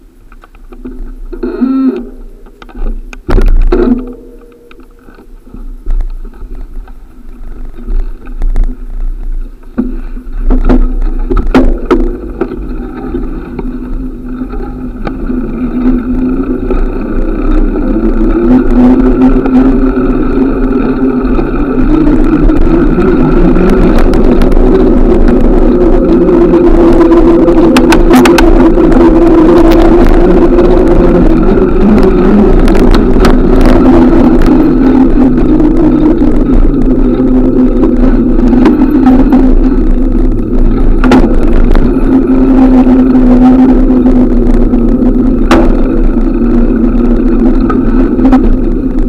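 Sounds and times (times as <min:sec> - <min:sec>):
wind rushing over microphone: 0:02.8 - 0:49.0.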